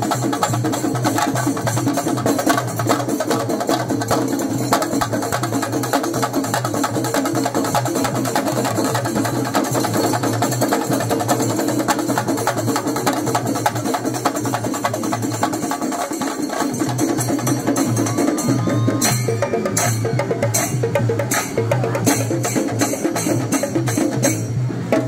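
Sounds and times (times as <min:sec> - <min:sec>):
drum troupe playing fast: 0:00.0 - 0:25.0.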